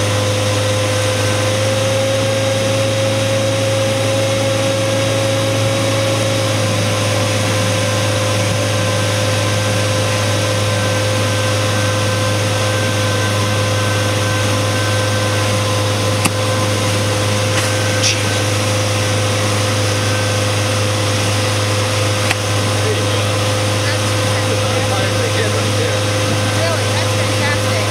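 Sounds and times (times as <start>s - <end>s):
outboard motor droning: 0.0s - 27.9s
water rushing from wake: 0.0s - 27.9s.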